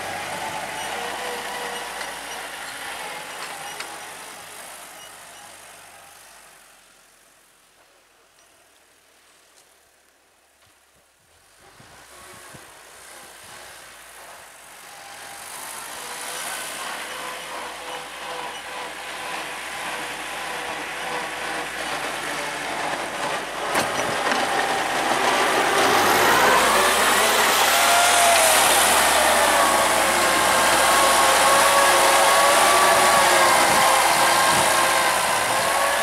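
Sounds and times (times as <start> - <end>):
tractor engine running: 0.0 - 6.0, 12.9 - 36.0.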